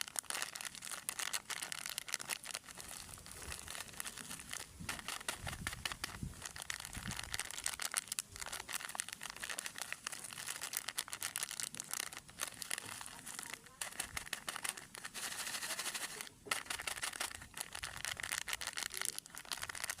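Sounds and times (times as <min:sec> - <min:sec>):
plastic wrappers crinkling: 0:00.0 - 0:20.0.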